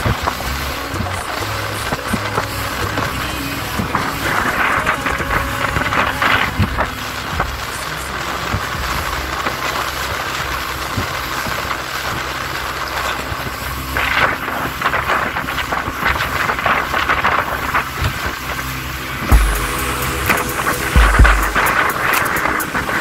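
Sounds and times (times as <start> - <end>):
outboard motor running: 0.0 - 23.0
water rushing along hull: 0.0 - 23.0
wind on microphone: 0.0 - 23.0.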